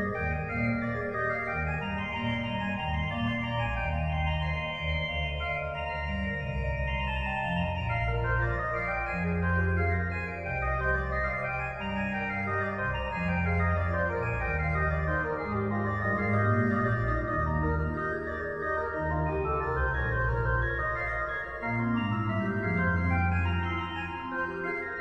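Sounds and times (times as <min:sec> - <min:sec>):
organ music: 0:00.0 - 0:25.0.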